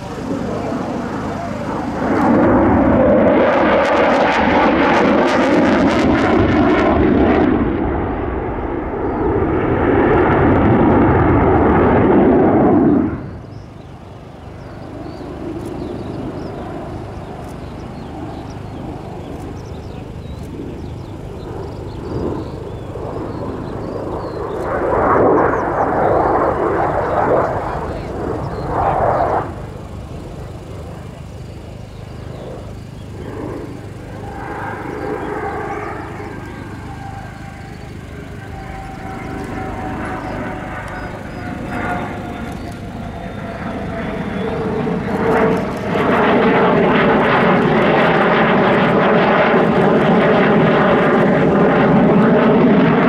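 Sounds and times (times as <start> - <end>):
distant jet: 0.0 - 53.0
jet engines passing overhead: 0.0 - 53.0.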